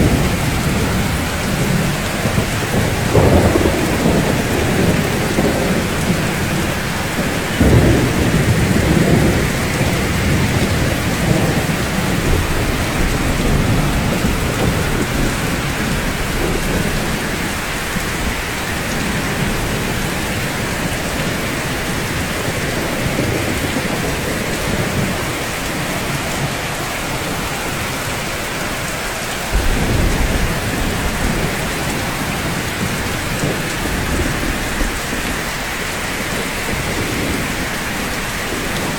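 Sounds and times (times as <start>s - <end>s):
heavy rain on rooftops: 0.0s - 38.9s
thunder rumbling: 0.0s - 38.9s.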